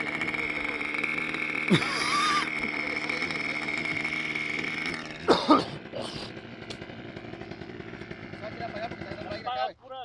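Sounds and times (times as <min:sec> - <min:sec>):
model airplane engine whining: 0:00.0 - 0:10.0.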